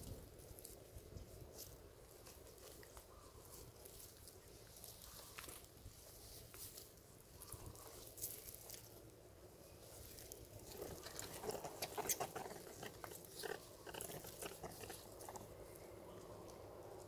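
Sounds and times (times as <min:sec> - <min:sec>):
faint clicks and rustles on leaves: 0:00.0 - 0:17.0.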